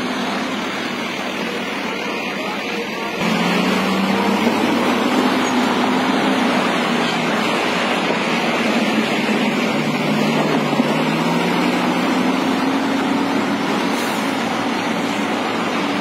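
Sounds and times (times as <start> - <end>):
lower engine note: 0.0 - 16.0
road noise: 0.0 - 16.0
truck engines driving past: 0.0 - 16.0.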